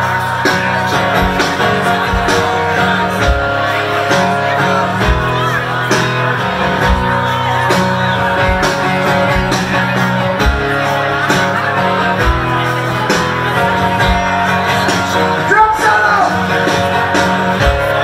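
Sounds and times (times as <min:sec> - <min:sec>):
man singing: 0:00.0 - 0:18.0
strummed acoustic guitar: 0:00.0 - 0:18.0.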